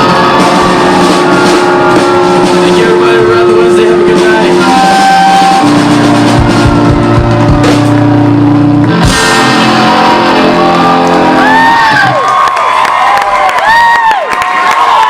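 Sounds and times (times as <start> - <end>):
audience whooping and cheering: 0.0 - 2.9, 4.8 - 15.0
drum accents: 0.0 - 12.2
rock band playing held chords: 0.0 - 13.8.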